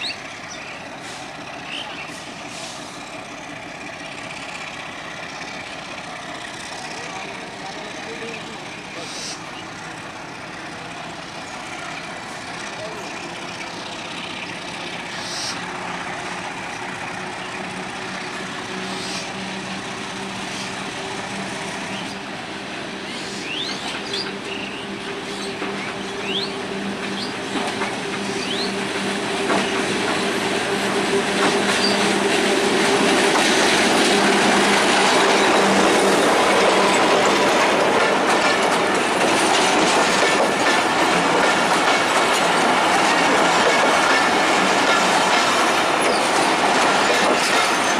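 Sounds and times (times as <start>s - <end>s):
diesel locomotive engine drone: 0.0s - 47.9s
train wheels clattering on rails: 0.0s - 47.9s.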